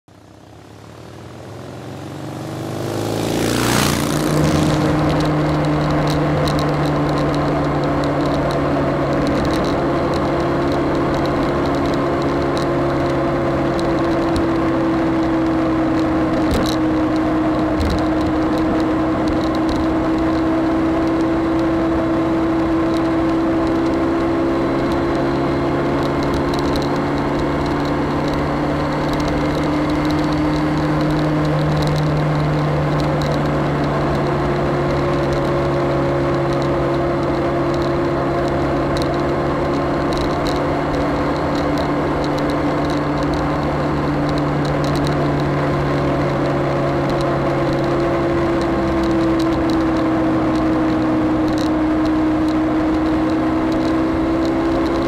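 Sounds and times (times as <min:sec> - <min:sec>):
motorcycle engine cruising: 0:00.1 - 0:55.0
wind and road noise: 0:00.1 - 0:55.0.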